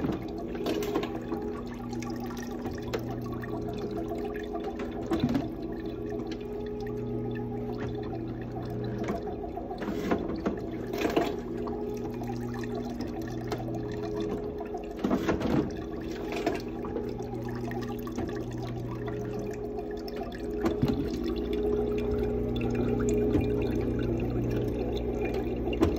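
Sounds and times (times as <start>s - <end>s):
juice trickling into a jug: 0.0s - 25.9s
juicer motor hum: 0.0s - 25.9s.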